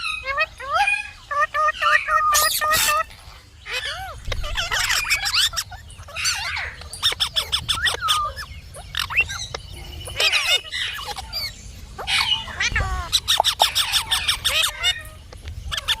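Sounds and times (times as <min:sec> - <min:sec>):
parakeet swooping calls and whistles: 0:00.0 - 0:16.0
parakeet chattering: 0:00.1 - 0:16.0.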